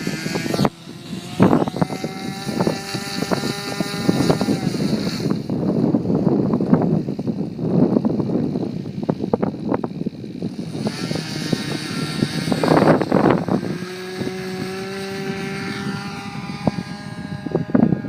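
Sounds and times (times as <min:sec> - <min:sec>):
model plane engine running: 0:00.0 - 0:18.0
wind buffeting microphone: 0:00.0 - 0:18.0.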